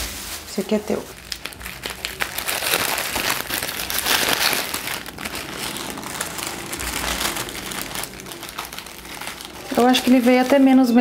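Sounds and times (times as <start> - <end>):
paper wrapper crinkling: 0.0 - 11.0.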